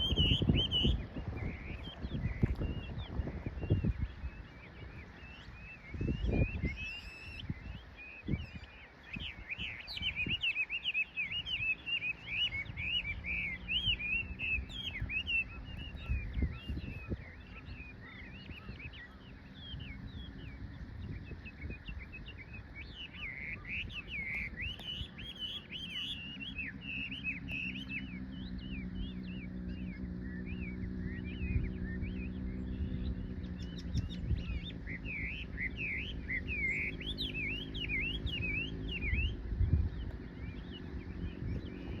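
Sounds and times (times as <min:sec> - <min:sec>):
small birds chirping: 0:00.0 - 0:42.0
steady low hum: 0:00.0 - 0:42.0.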